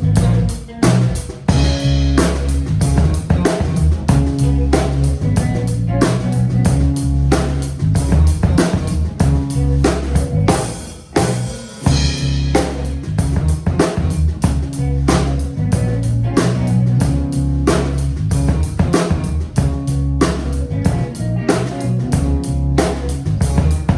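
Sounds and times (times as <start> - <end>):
bass line: 0.0 - 23.9
drum kit beating: 0.0 - 23.9
guitar: 0.0 - 23.9.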